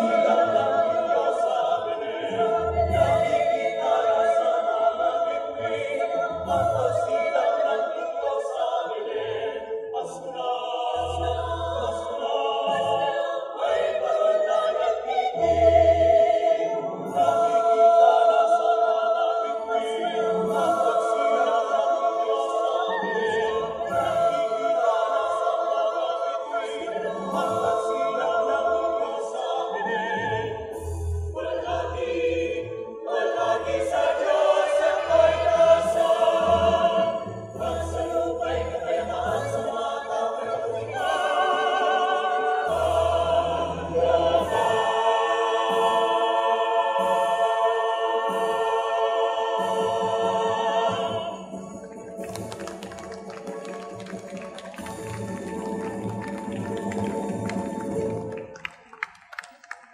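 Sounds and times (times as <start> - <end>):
mixed choir singing in harmony: 0.0 - 58.8.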